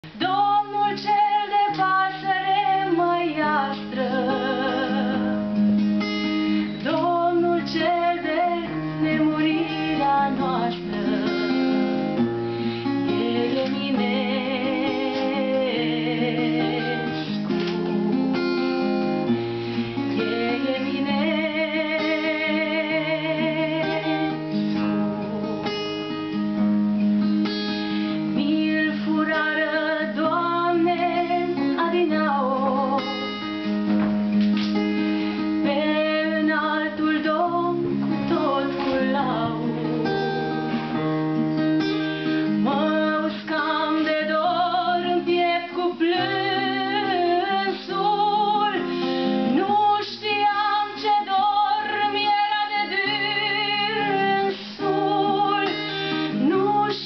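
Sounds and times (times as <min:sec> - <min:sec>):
woman singing: 0:00.0 - 0:18.0, 0:19.8 - 0:24.9, 0:28.2 - 0:33.8, 0:35.4 - 0:41.0, 0:42.1 - 0:57.0
plucked acoustic guitar: 0:00.0 - 0:57.0.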